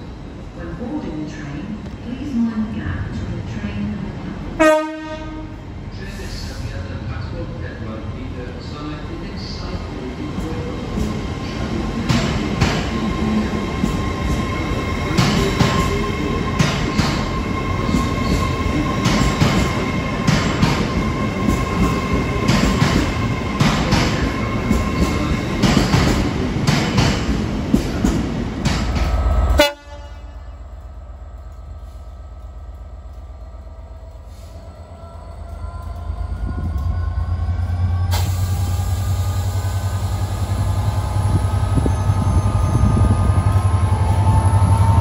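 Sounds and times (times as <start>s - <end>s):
diesel train engine rumble: 0.0s - 45.0s
train passing with hum: 0.0s - 45.0s.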